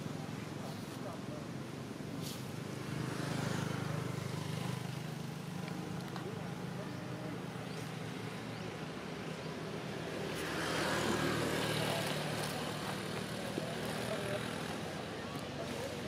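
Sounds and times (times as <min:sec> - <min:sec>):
road vehicle passing: 0:02.2 - 0:16.0.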